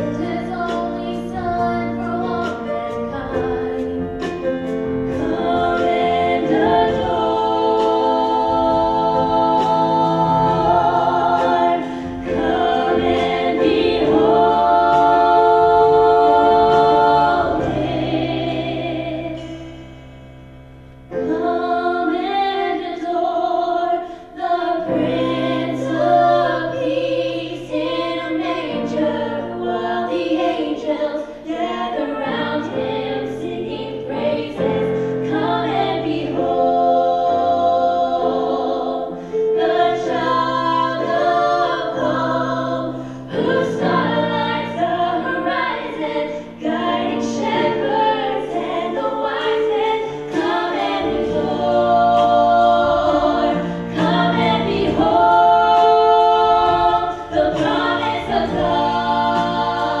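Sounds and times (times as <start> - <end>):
women singing in harmony: 0.0 - 19.9, 21.1 - 60.0.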